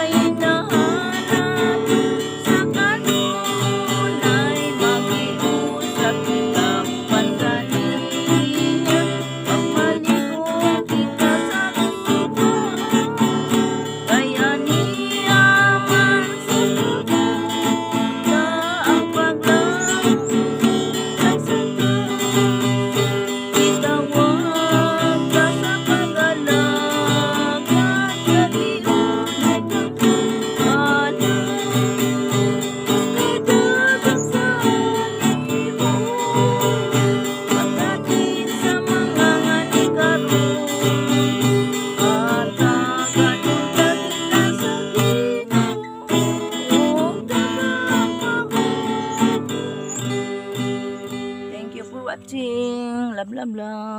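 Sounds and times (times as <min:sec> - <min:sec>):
acoustic guitar strummed and plucked: 0:00.0 - 0:53.9.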